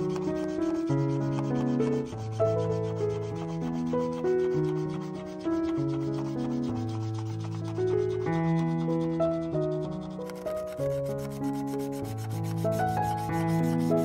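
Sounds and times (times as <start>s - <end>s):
marker scratching on paper: 0.0s - 14.0s.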